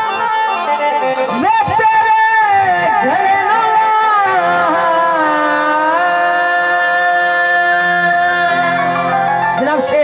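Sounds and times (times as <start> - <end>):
man singing: 0.0 - 9.0
live music accompaniment: 0.0 - 10.0.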